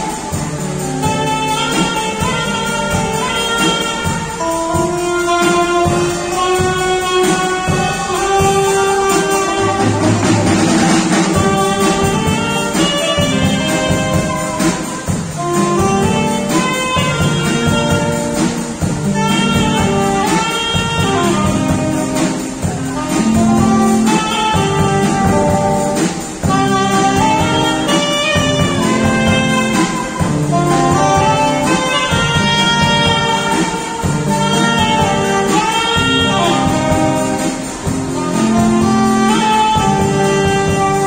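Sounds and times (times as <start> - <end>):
drum kit: 0.0 - 41.0
electric guitar: 0.0 - 41.0
saxophone melody: 0.0 - 41.0.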